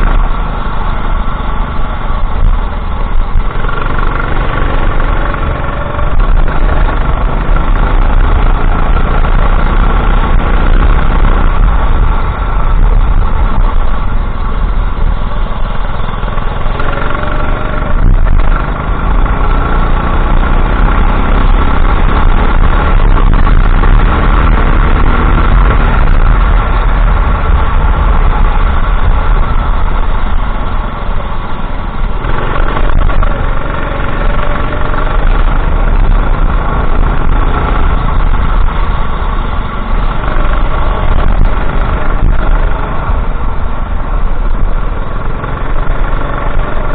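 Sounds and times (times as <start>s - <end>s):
kart engine accelerating: 0.0s - 15.0s, 15.7s - 46.9s
heavy low rumble: 0.0s - 46.9s.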